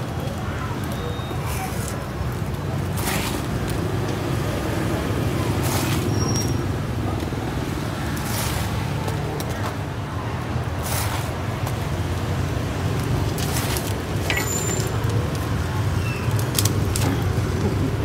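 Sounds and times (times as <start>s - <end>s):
street traffic hum: 0.0s - 18.0s.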